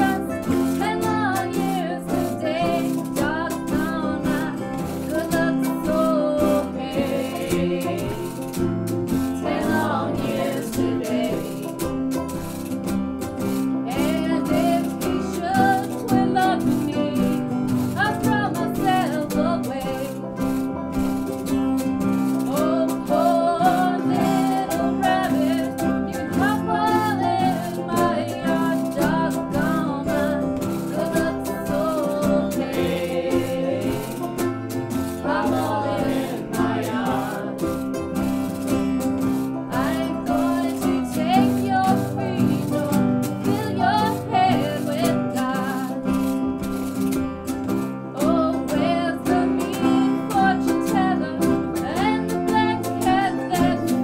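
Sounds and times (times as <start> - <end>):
band playing music: 0.0 - 54.0.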